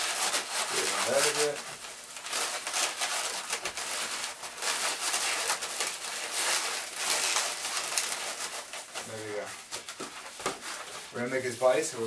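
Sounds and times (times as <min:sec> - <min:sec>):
balloons rubbing and squeaking: 0:00.0 - 0:12.0.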